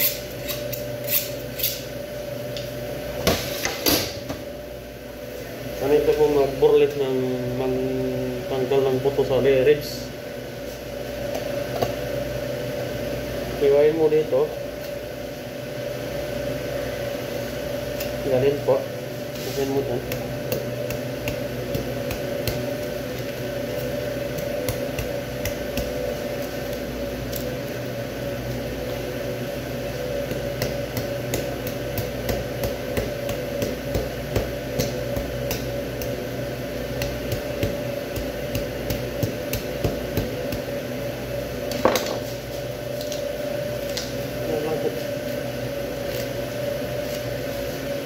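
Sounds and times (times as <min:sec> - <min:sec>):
machinery hum: 0:00.0 - 0:48.0.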